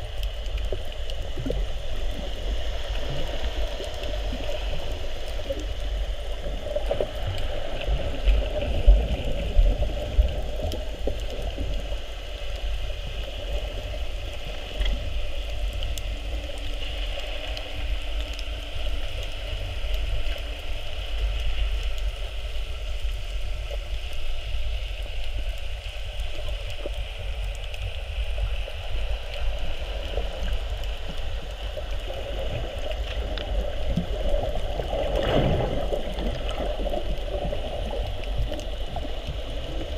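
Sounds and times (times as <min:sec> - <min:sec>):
underwater low rumble: 0:00.0 - 0:39.9.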